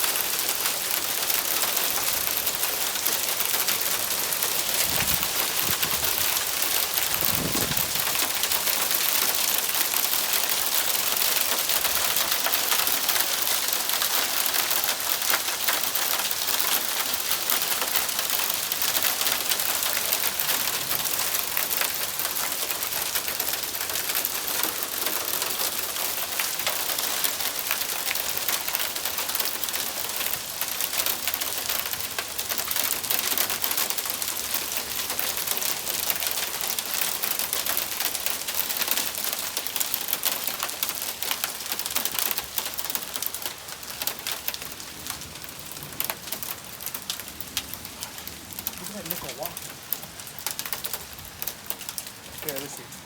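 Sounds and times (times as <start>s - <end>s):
hail and rain pelting: 0.0s - 53.0s.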